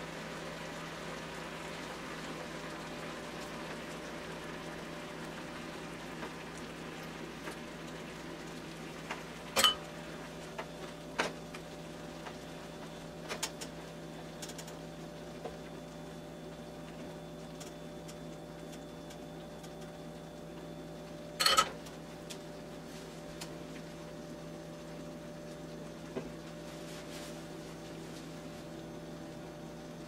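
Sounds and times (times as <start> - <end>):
food bubbling in skillet: 0.0 - 30.0.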